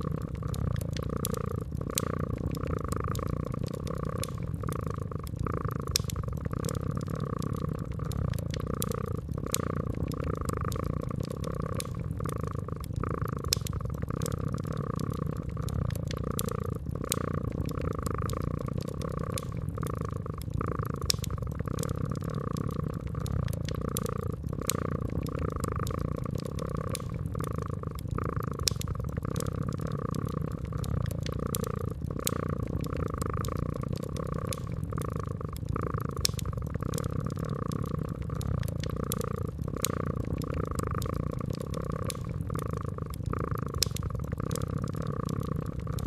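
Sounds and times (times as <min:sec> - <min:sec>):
cat purring: 0:00.0 - 0:46.0
fireplace flames crackling and popping: 0:00.0 - 0:46.0.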